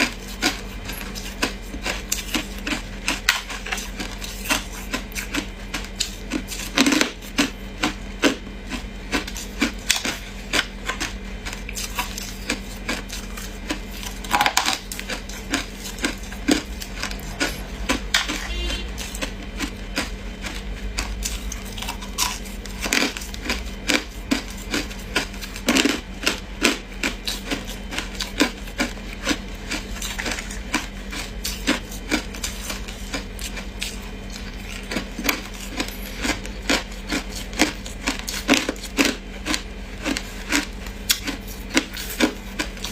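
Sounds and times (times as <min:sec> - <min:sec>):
ice crunching being chewed: 0:00.0 - 0:42.9
steady low hum: 0:00.0 - 0:42.9.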